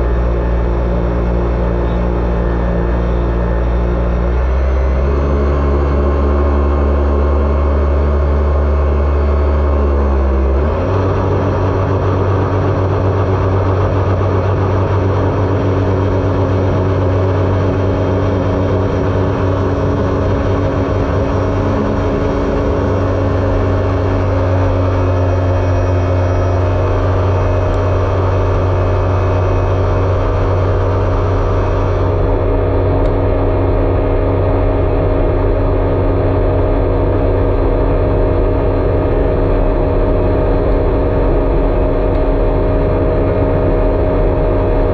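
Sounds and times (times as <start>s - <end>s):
jet ski engine: 0.0s - 44.9s.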